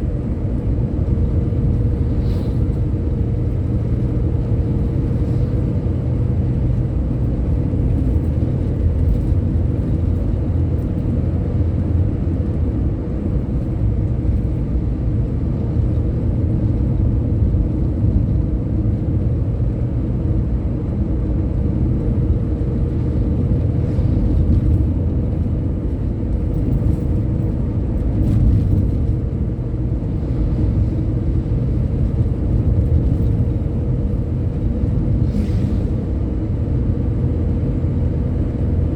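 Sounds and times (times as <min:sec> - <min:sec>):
engine and road rumble: 0:00.0 - 0:38.9.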